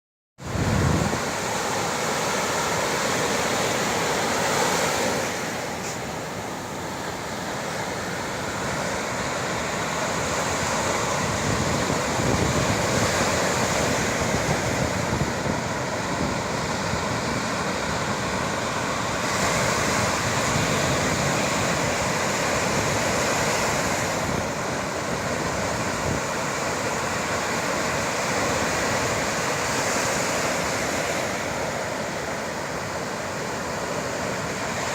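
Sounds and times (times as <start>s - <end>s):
surf breaking on shore: 0.4s - 34.9s.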